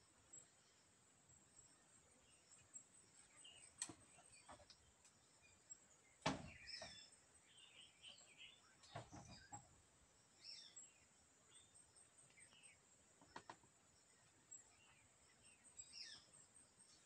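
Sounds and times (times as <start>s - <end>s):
small bird chirps: 1.6s - 9.7s, 10.3s - 17.0s.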